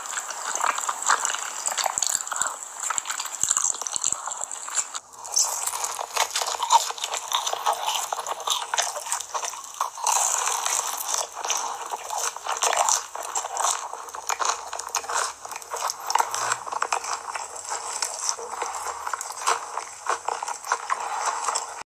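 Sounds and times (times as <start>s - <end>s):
chewing pizza: 0.0s - 21.9s
crust crunching: 0.0s - 21.9s.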